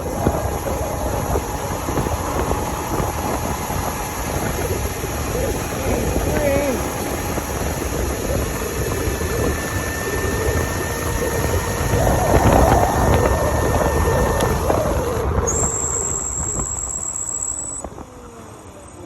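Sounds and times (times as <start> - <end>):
wind rumble on microphone: 0.0 - 18.8
higher whine: 0.0 - 19.0
mini motorbike motor whine: 0.0 - 19.0.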